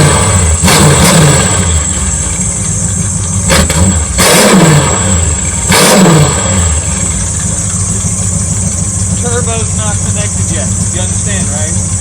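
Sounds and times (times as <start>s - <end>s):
engine revving and idling: 0.0s - 12.0s.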